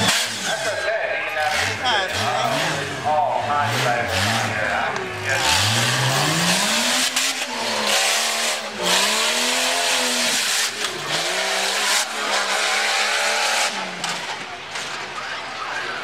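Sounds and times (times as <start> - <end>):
truck engine revving: 0.0 - 15.5.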